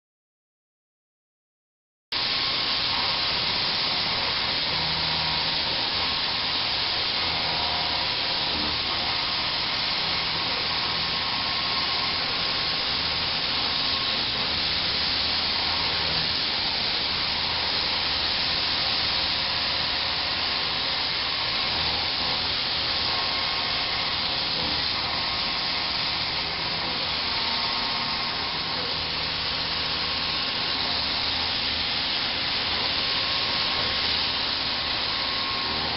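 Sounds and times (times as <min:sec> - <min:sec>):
milling cutter hissing: 0:02.2 - 0:35.9.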